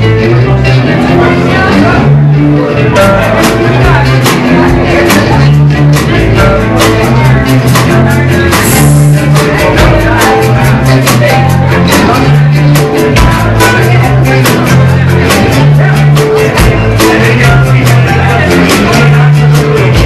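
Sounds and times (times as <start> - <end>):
bass guitar: 0.0 - 20.0
electric guitars: 0.0 - 20.0
drum beat: 3.0 - 20.0.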